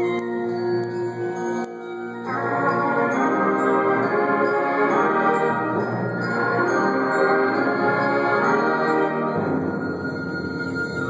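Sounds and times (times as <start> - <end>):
band playing sustained chords: 0.0 - 11.0.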